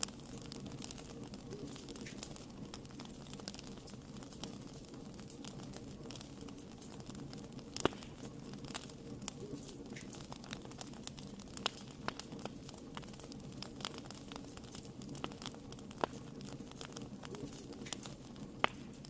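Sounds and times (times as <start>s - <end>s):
low flutter of flames: 0.0s - 19.0s
wood fire popping and crackling: 0.0s - 19.0s.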